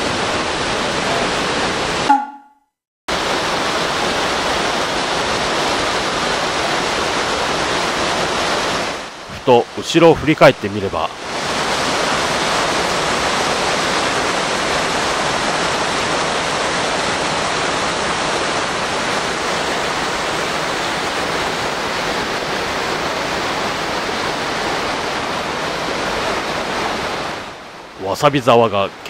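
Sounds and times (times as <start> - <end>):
waterfall rushing: 0.0 - 2.1, 3.1 - 29.0.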